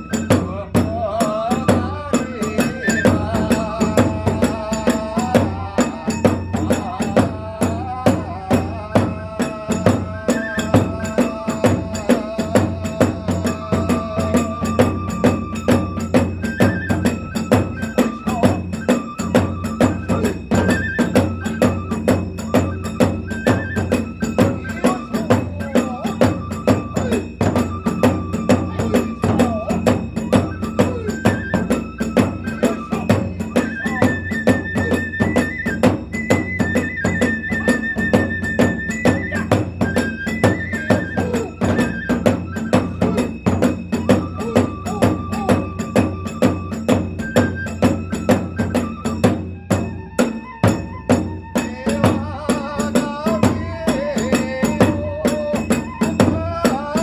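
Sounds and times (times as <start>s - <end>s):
bamboo flute melody: 0.0s - 57.0s
taiko drums beat: 0.0s - 57.0s.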